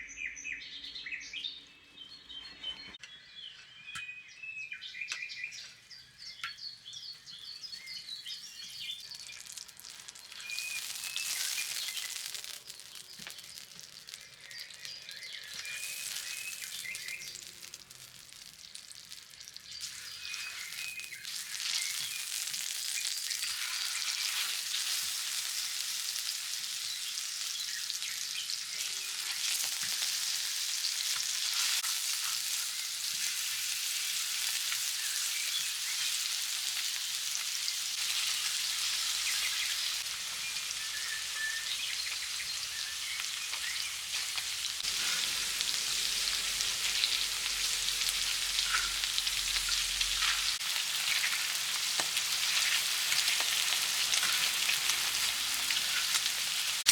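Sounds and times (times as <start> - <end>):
food sizzling in hot oil: 7.4 - 56.9.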